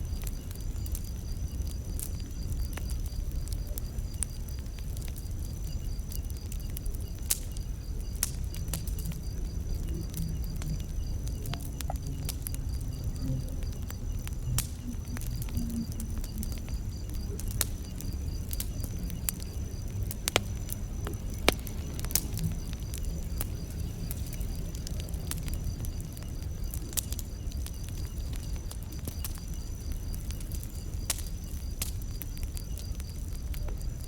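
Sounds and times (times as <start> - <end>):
campfire crackling and popping: 0.0 - 34.0
crickets chirping: 0.0 - 34.0.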